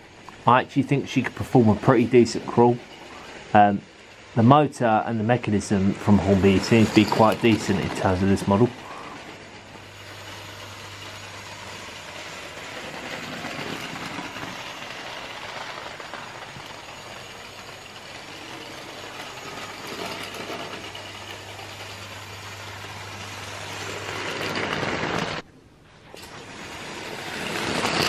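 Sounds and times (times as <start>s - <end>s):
model train running on track: 0.0s - 25.4s, 26.1s - 28.0s.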